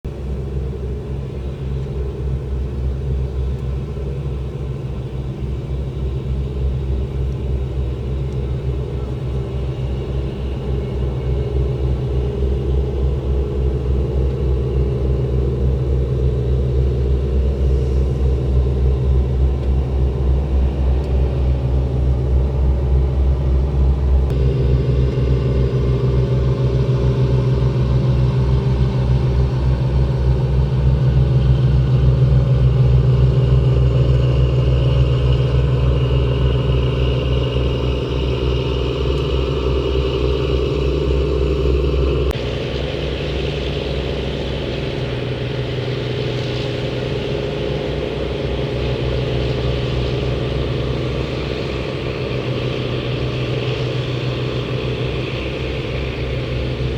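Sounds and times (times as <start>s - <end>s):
boat diesel engine throbbing: 0.0s - 56.9s.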